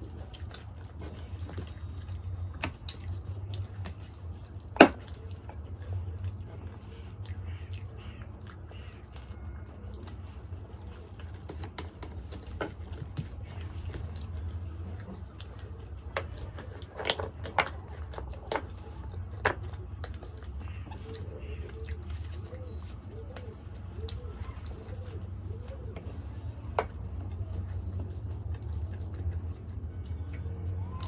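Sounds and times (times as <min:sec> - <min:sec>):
chewing: 0:00.0 - 0:31.0.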